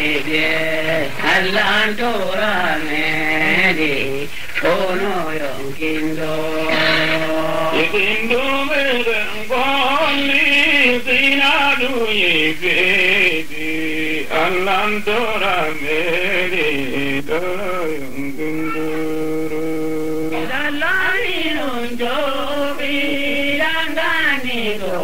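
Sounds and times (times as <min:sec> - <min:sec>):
person singing ornamented melody: 0:00.0 - 0:25.0.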